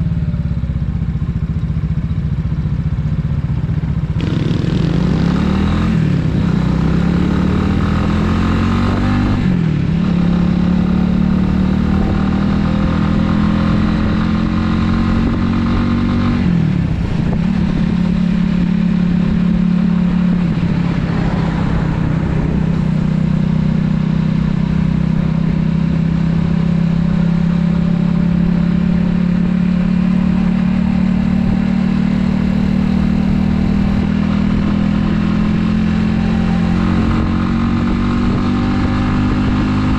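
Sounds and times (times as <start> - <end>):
motorcycle engine shifting gears: 0.2 - 39.9.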